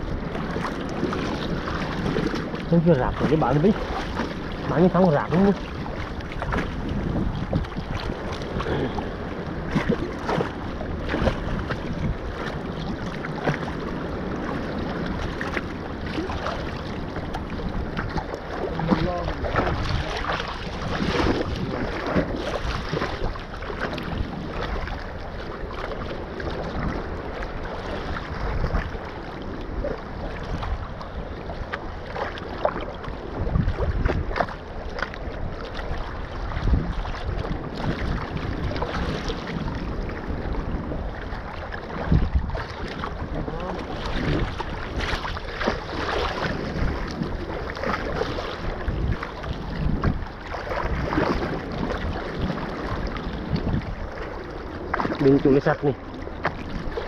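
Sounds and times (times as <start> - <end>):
sea water sloshing and slapping: 0.0 - 57.0
water splashes: 0.0 - 57.0
wind buffeting microphone: 0.0 - 57.0.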